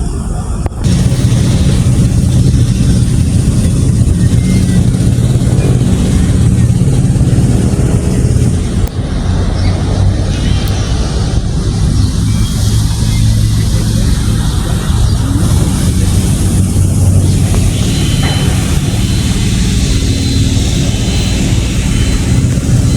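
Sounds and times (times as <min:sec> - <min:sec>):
engine humming: 0:00.0 - 0:22.9.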